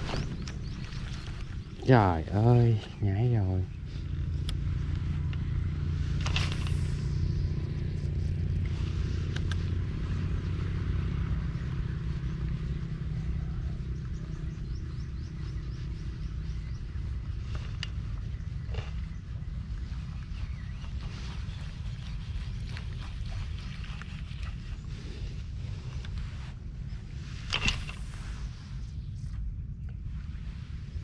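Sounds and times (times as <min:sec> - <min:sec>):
low motor drone: 0:00.0 - 0:31.0.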